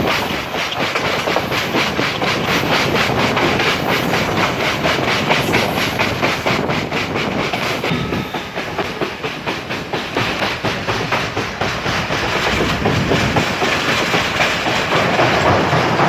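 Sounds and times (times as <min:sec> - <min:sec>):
train wheels clattering over rail joints: 0:00.0 - 0:16.0.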